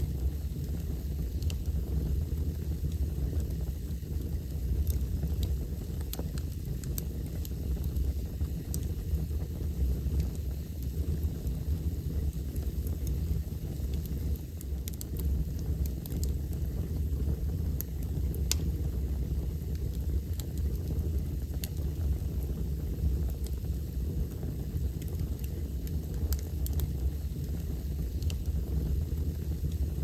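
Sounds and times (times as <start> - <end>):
fire crackles and pops: 0.0 - 30.0
wood fire rumbling: 0.0 - 30.0.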